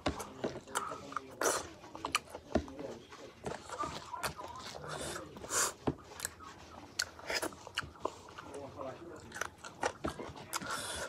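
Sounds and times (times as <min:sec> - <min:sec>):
man chewing with wet smacks: 0:00.0 - 0:11.0.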